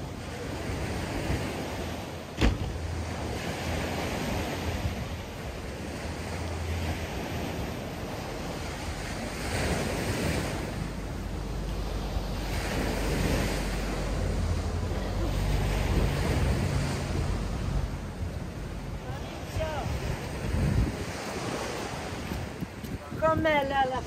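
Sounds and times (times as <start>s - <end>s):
small waves washing on sand: 0.0s - 24.0s
wind buffeting microphone: 0.0s - 24.0s.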